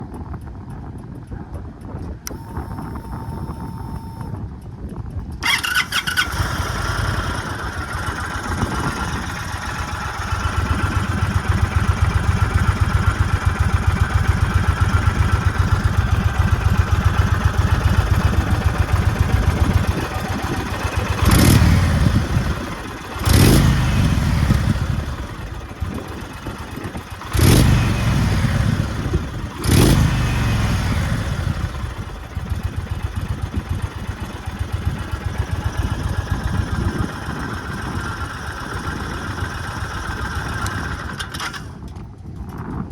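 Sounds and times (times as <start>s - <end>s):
motorcycle throttle blips: 0.0s - 42.9s
motorcycle engine idling: 0.4s - 42.9s.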